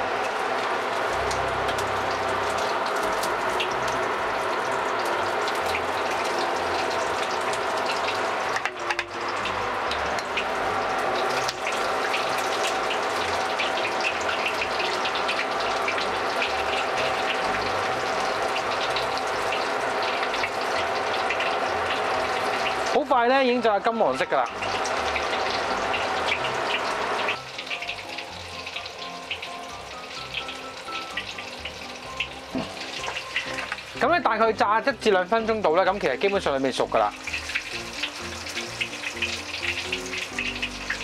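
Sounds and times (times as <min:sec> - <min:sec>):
deep-frying sizzle and pops: 0:00.0 - 0:41.0.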